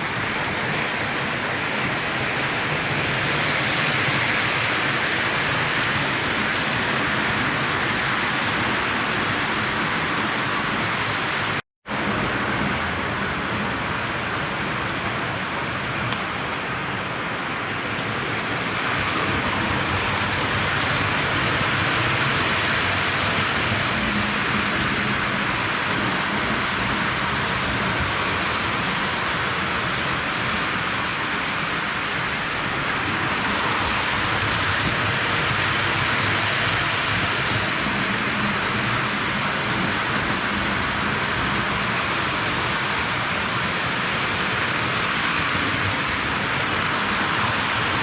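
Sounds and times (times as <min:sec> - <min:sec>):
toy train wheels rushing on rails: 0:00.0 - 0:11.6, 0:13.5 - 0:48.0.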